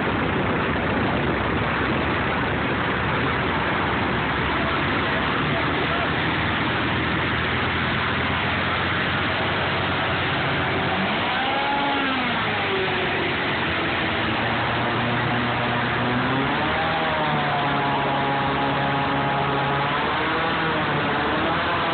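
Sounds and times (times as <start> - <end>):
airboat engine and propeller: 0.0 - 21.9.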